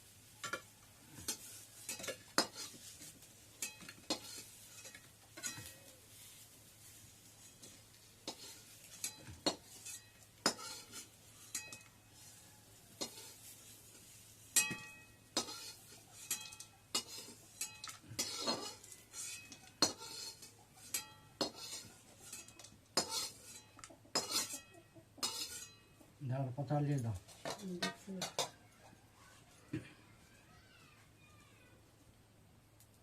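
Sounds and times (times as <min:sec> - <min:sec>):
metal utensils clinking on pots: 0:00.4 - 0:06.0, 0:07.2 - 0:28.6.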